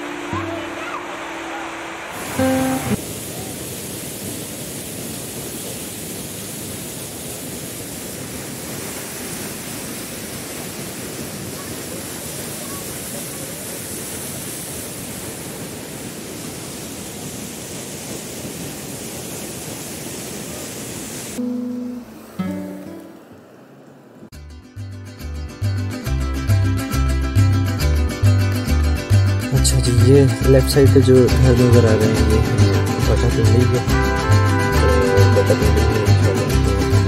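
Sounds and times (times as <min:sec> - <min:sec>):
waterfall roaring: 0:00.0 - 0:24.3, 0:29.5 - 0:37.0.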